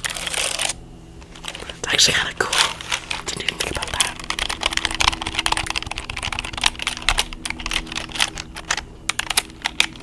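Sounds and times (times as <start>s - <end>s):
computer keyboard typing: 1.4s - 10.0s.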